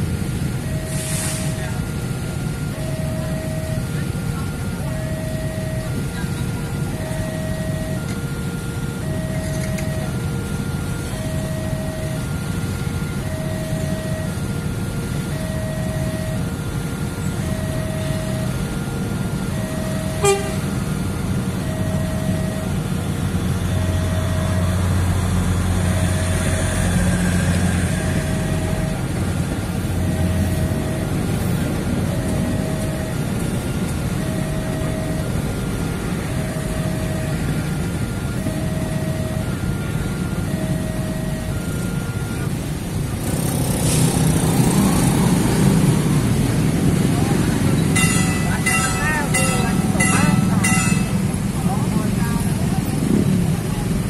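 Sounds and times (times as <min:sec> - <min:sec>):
level crossing alarm ringing: 0:00.0 - 0:54.0
train rumbling over crossing: 0:00.0 - 0:54.0.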